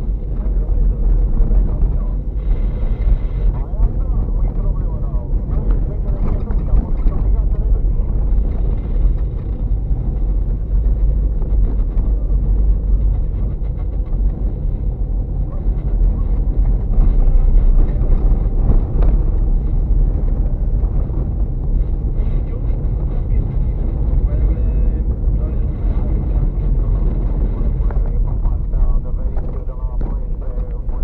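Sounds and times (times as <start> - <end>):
engine and tyres rumbling: 0.0 - 31.0.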